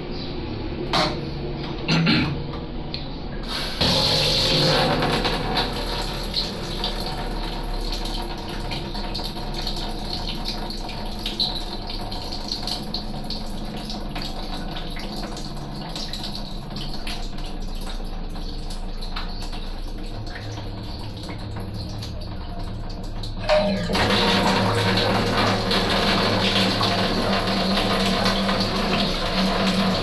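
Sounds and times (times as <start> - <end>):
water running: 3.4 - 30.0.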